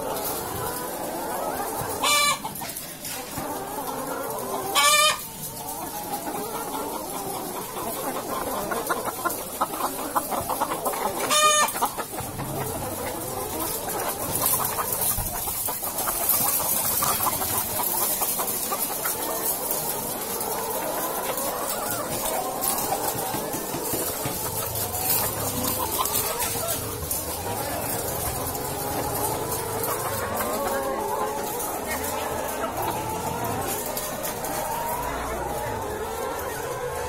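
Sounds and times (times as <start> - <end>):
hens clucking: 0.0 - 37.0.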